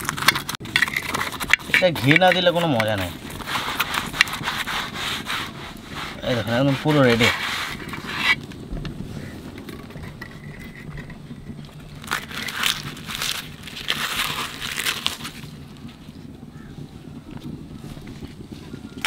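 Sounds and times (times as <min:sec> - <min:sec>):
flatbread crackling and tearing: 0:00.0 - 0:08.5, 0:09.2 - 0:16.7.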